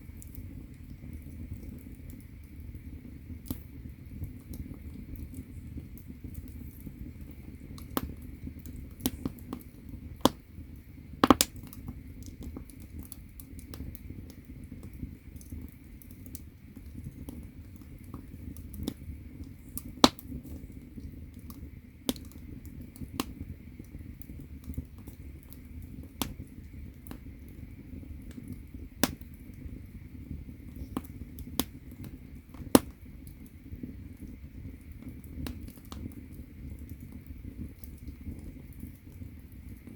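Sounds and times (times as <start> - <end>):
firewood burning with crackles: 0.0 - 39.9.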